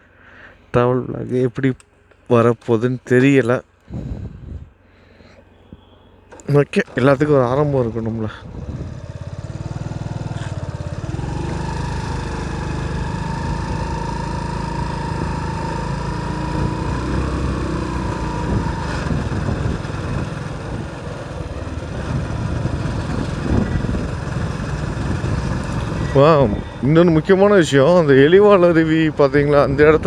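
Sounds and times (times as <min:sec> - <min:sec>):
motorcycle engine running: 0:05.6 - 0:30.0.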